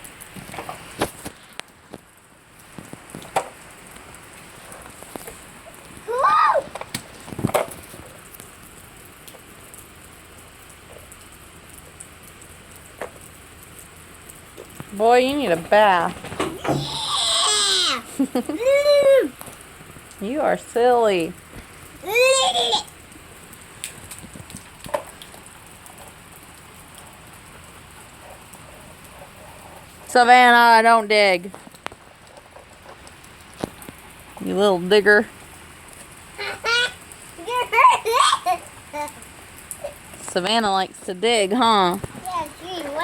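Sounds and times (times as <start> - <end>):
rain pattering on ground: 0.0 - 43.0.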